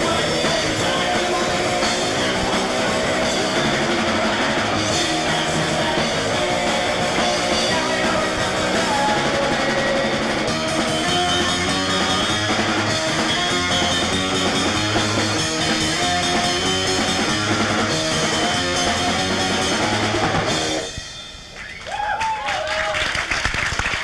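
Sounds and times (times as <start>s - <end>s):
live rock band playing: 0.0s - 21.8s.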